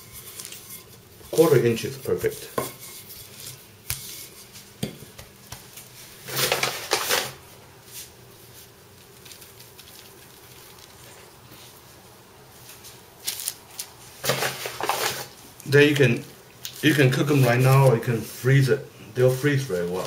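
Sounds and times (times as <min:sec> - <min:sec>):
wax paper rustling: 0:00.0 - 0:15.8, 0:16.7 - 0:18.7, 0:19.3 - 0:20.0
faint room hiss: 0:00.0 - 0:20.0.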